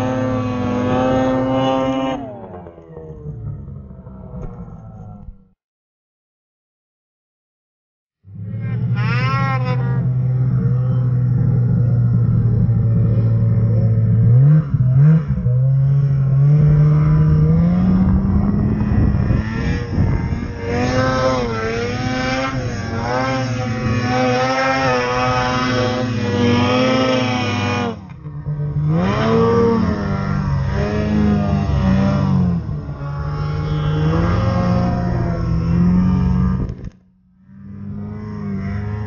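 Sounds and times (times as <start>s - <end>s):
snowmobile engine revving: 0.0s - 5.2s, 8.3s - 39.0s.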